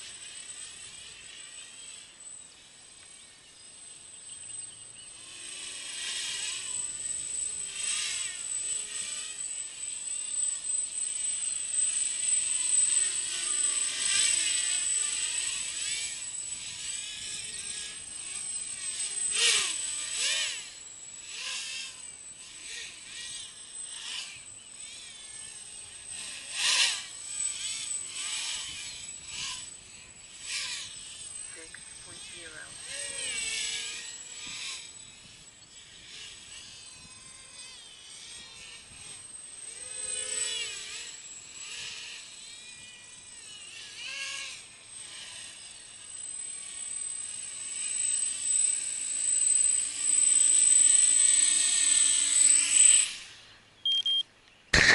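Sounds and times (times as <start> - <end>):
quadcopter propellers buzzing and whining: 0.0 - 54.9.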